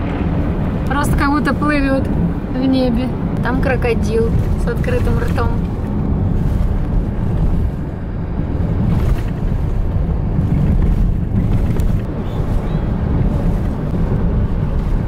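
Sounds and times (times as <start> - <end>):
car road and wind rumble: 0.0 - 15.0.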